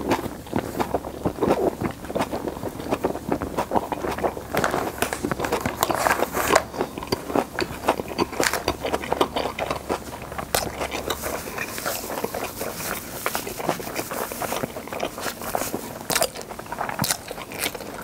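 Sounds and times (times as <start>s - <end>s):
wet chewing of noodles: 0.0s - 18.0s.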